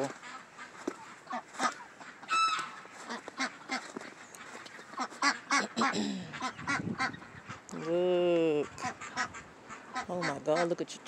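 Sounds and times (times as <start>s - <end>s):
waterfowl honking and quacking: 0.0s - 8.0s, 8.6s - 10.9s.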